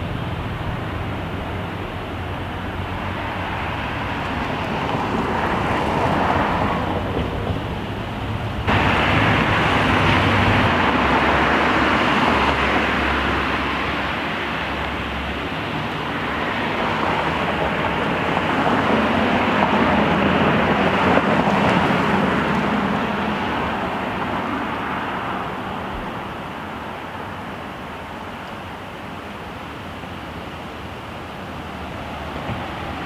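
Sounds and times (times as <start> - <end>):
cars passing on street: 0.0 - 33.0.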